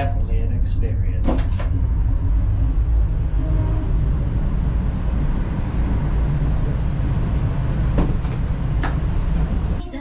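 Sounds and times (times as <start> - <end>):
high-speed train rumbling: 0.0 - 10.0.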